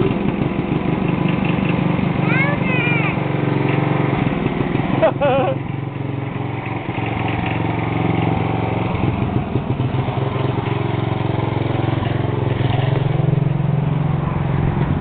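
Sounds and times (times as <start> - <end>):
small mower engine running: 0.0 - 15.0.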